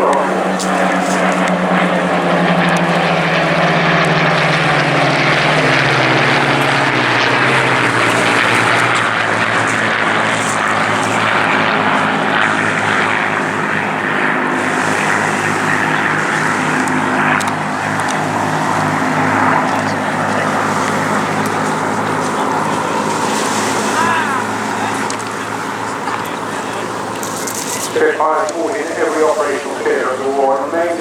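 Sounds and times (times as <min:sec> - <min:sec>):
propeller planes flying past: 0:00.0 - 0:31.0.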